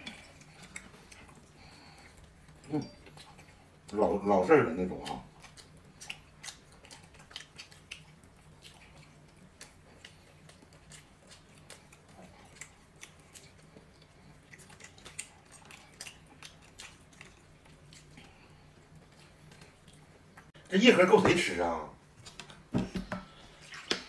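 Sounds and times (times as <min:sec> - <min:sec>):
people chewing meat: 0:00.0 - 0:20.7
low steady hum: 0:00.0 - 0:24.0.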